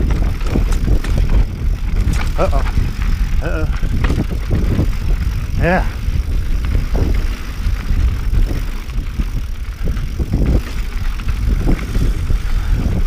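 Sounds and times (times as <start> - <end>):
bike knocking and rattling: 0.0 - 13.0
bike tyres on rock: 0.0 - 13.0
wind rumble on microphone: 0.0 - 13.0.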